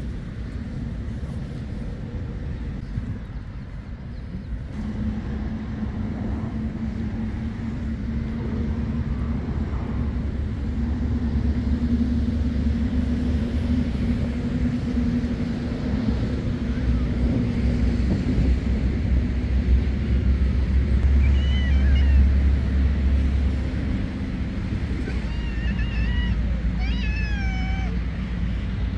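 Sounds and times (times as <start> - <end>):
low engine rumble: 0.0 - 28.9
low hum: 0.0 - 28.9.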